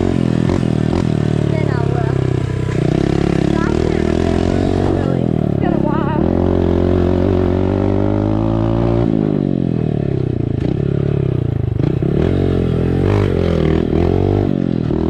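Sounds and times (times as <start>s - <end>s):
motorbike engine running: 0.0s - 15.0s.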